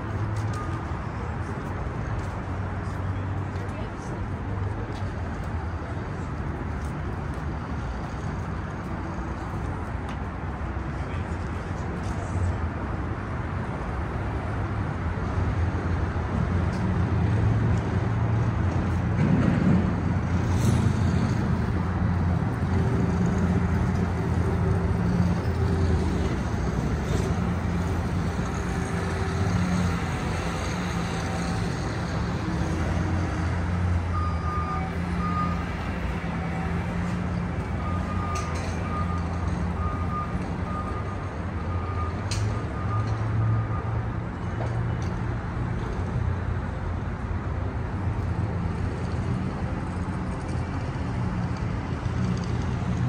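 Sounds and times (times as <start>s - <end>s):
street traffic: 0.0s - 53.0s.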